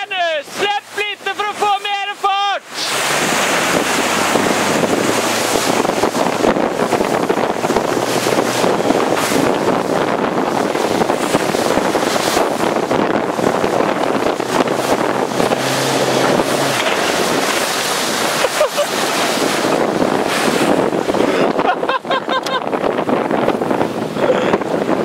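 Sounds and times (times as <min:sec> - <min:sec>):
rushing water and breaking waves: 0:00.0 - 0:25.0
wind buffeting microphone: 0:02.7 - 0:25.0.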